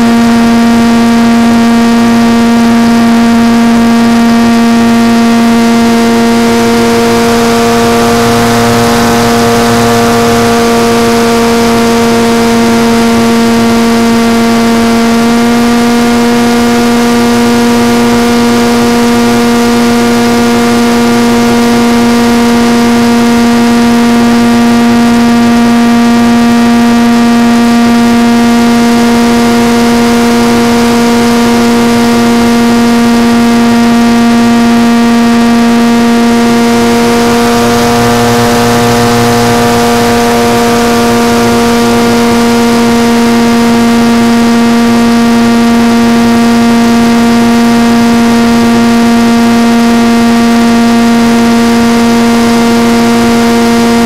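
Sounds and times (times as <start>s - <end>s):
model airplane motor drone: 0.0s - 54.0s.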